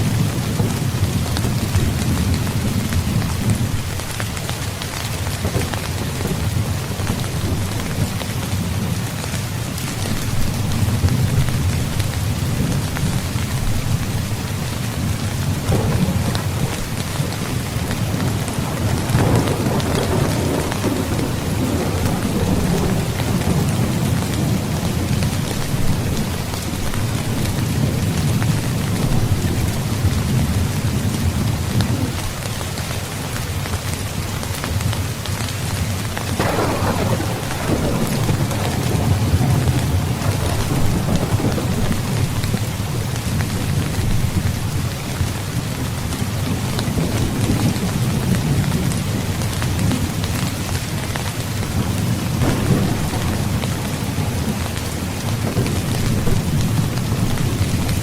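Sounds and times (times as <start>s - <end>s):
heavy rain falling: 0.0s - 58.0s
low thunder rumbling: 4.7s - 32.3s, 36.3s - 58.0s.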